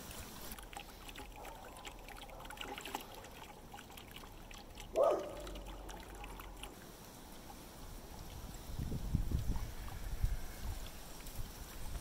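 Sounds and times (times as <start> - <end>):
water pouring into plastic bucket: 0.0 - 12.0.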